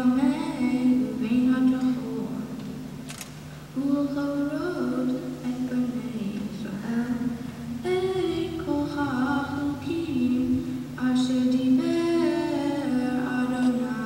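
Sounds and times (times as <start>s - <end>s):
woman chanting: 0.0s - 2.6s, 3.8s - 14.0s
faint low hum: 0.0s - 14.0s.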